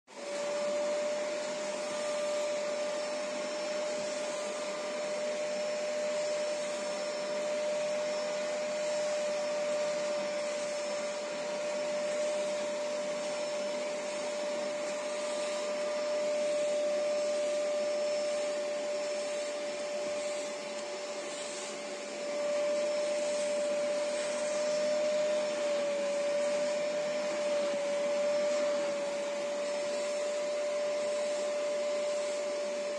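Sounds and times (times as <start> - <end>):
vacuum motor humming: 0.1 - 32.9
nozzle sucking air: 0.2 - 32.9.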